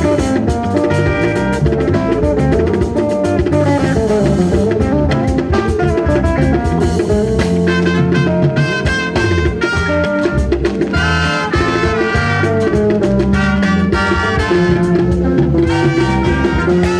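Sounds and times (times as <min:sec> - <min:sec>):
upbeat band music: 0:00.0 - 0:16.9.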